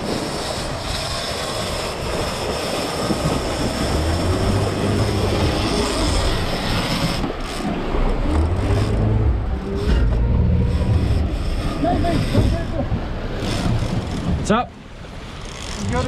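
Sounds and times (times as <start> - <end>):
boat engine drone: 0.0 - 16.0
water rushing along hull: 0.0 - 16.0
wind: 0.0 - 16.0.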